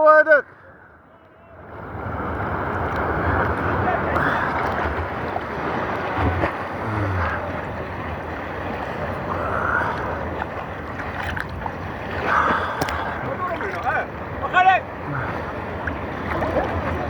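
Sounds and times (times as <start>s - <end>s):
seawater sloshing and splashing: 1.8s - 17.0s.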